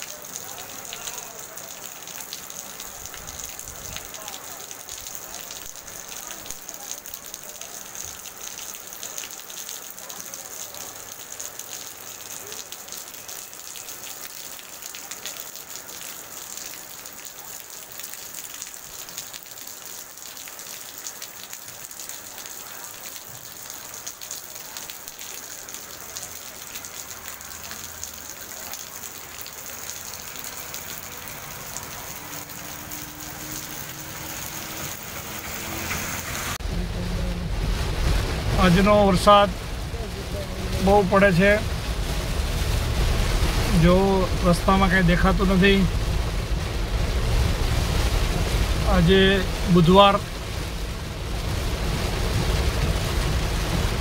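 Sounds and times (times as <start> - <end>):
rain on a paved street: 0.0 - 54.0.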